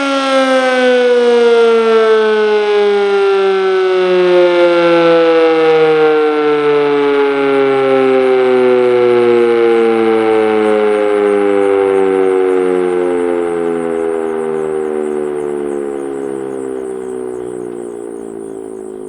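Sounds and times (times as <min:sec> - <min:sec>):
two-tone warning siren: 0:00.0 - 0:19.0.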